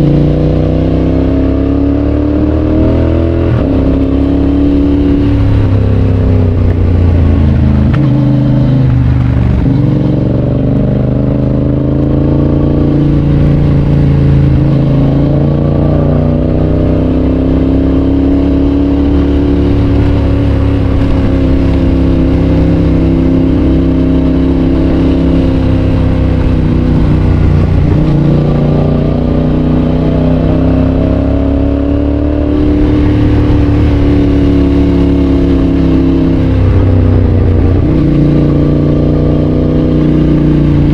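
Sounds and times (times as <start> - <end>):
motorcycle engine running: 3.5 - 40.9.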